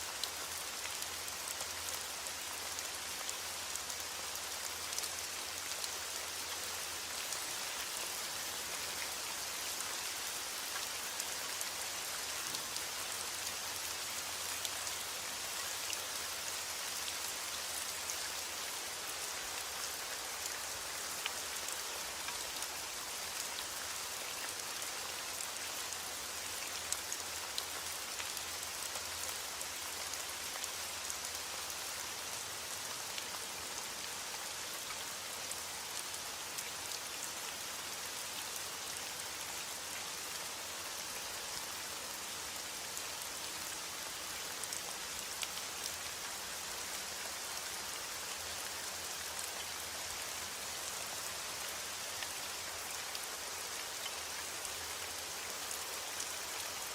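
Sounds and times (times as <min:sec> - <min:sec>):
rain pattering: 0:00.1 - 0:56.9.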